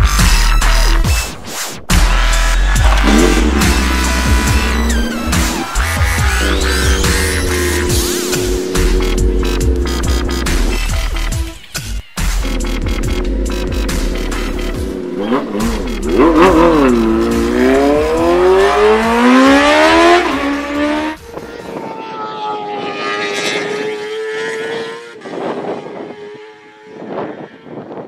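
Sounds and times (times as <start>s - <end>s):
motorcycle engine revving hard: 2.8s - 11.6s, 12.3s - 21.2s, 21.8s - 27.6s.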